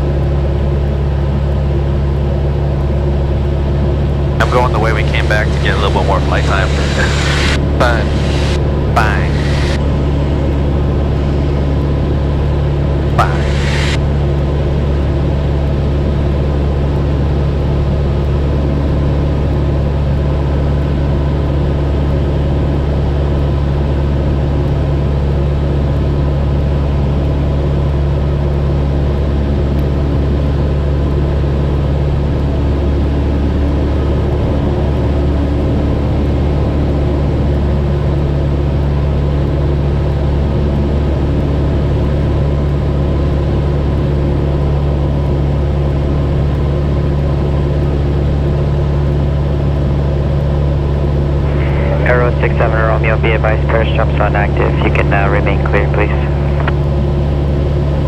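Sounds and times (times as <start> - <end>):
propeller plane droning: 0.0 - 58.0.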